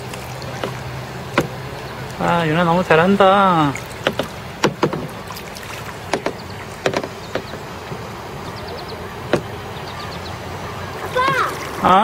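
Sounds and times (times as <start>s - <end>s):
paddle knocking against kayak: 0.0s - 9.8s, 11.0s - 12.0s
water wash: 0.0s - 12.0s.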